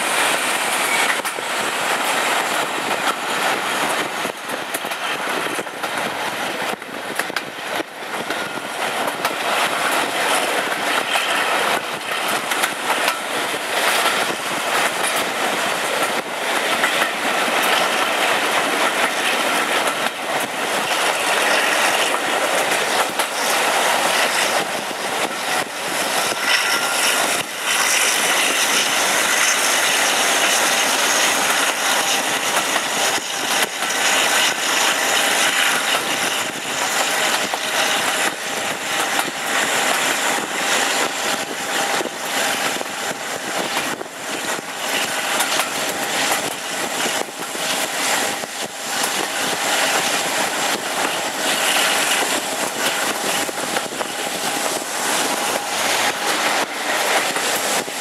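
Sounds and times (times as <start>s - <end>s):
diesel locomotive engines working: 0.0s - 58.0s
rushing air: 0.0s - 58.0s
train wheels clicking over rail joints: 0.0s - 58.0s.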